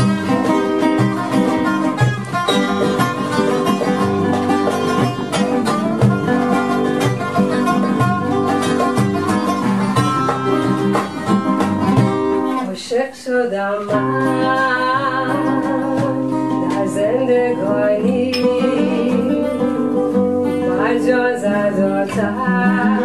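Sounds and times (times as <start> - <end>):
plucked string instrument music: 0.0 - 12.8, 13.8 - 23.0.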